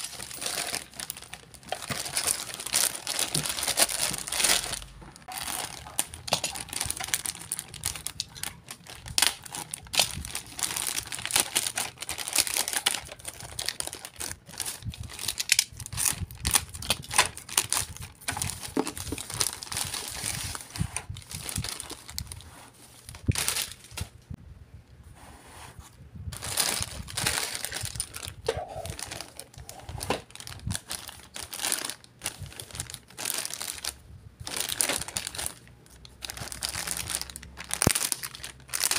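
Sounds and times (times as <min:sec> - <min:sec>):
plastic bags crinkling: 0:00.0 - 0:24.2, 0:26.3 - 0:38.9.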